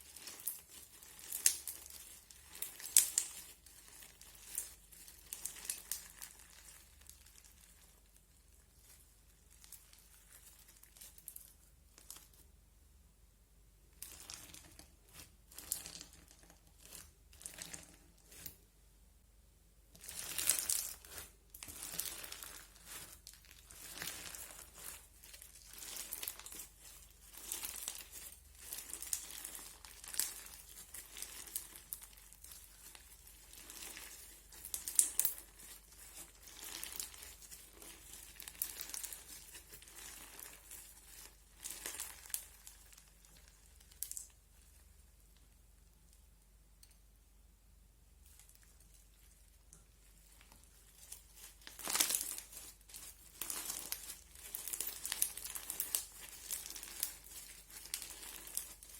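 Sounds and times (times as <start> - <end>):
crunchy slime crackling: 0.0 - 12.4, 20.0 - 45.2, 48.2 - 58.9.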